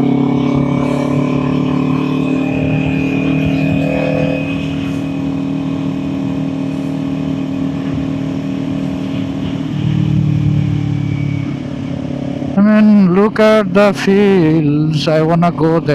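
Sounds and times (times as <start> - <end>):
motorcycle engine cruising: 0.0 - 15.9.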